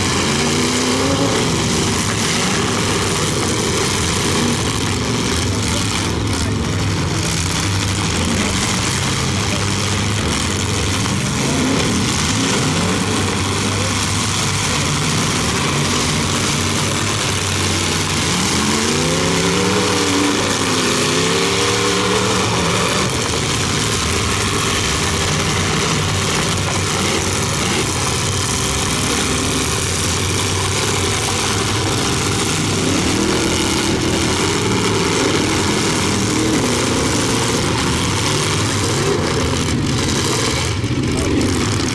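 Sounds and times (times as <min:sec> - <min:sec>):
car engines running hard: 0:00.0 - 0:41.9
engine revving: 0:00.0 - 0:41.9.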